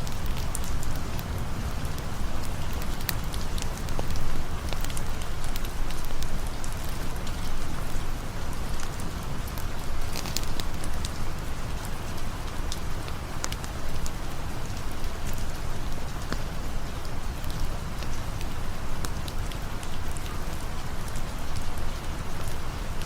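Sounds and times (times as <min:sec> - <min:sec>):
campfire crackling: 0:00.0 - 0:23.0
steady rain falling: 0:00.0 - 0:23.0.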